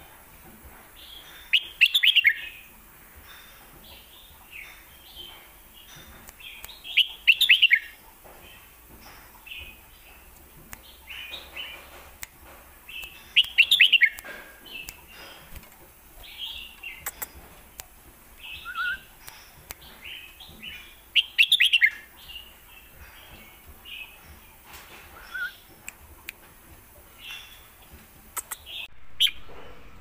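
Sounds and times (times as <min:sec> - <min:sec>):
bird chirping: 0:01.0 - 0:12.0, 0:12.8 - 0:17.8, 0:18.4 - 0:29.8.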